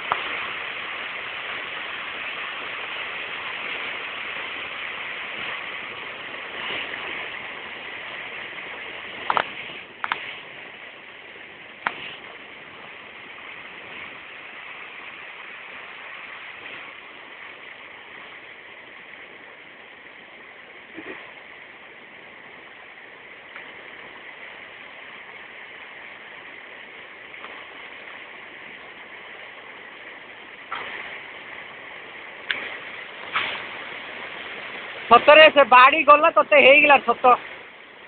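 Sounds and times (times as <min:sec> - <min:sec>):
river water flowing over rocks: 0:00.0 - 0:38.0.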